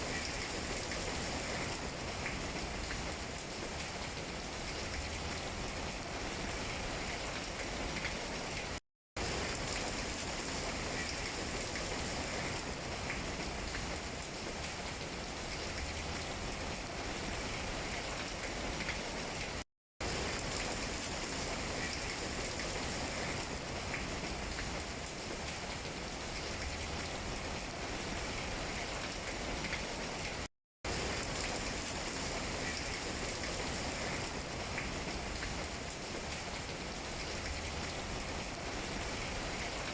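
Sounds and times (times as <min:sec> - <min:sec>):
rain on tree leaves: 0:00.0 - 0:39.9.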